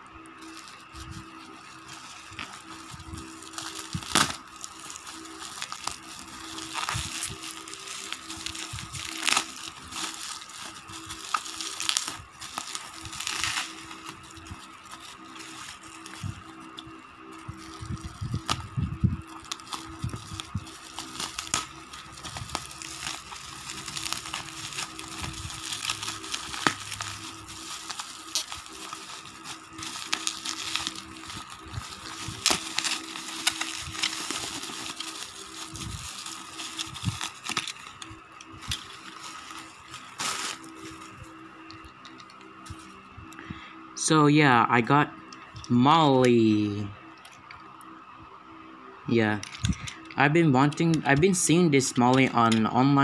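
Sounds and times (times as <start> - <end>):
bubble wrap crinkling: 0.0 - 43.4, 49.1 - 53.0
scissors cutting plastic: 0.2 - 42.8, 49.3 - 53.0.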